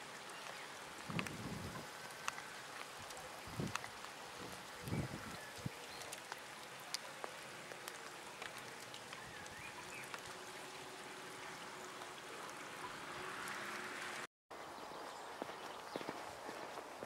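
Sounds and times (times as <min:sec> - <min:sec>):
sharp taps of raindrops: 0:00.0 - 0:13.8
light rain falling: 0:00.0 - 0:17.0.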